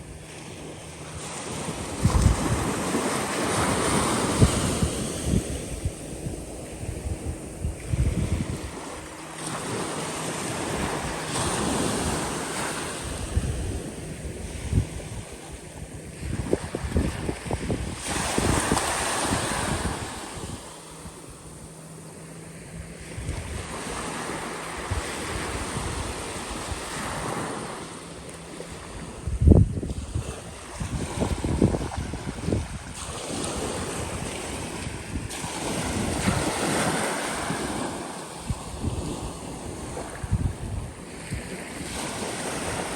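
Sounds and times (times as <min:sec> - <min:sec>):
small waves washing onto beach: 0:00.0 - 0:42.9
wind buffeting microphone: 0:00.0 - 0:42.9.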